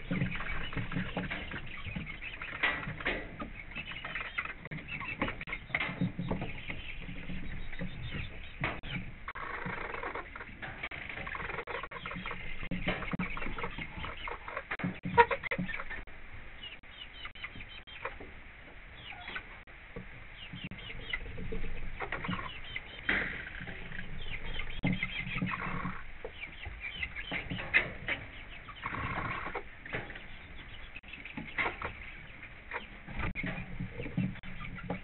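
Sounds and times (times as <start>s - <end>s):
beaks pecking feed: 0.0s - 35.0s
chickens clucking softly: 0.0s - 35.0s.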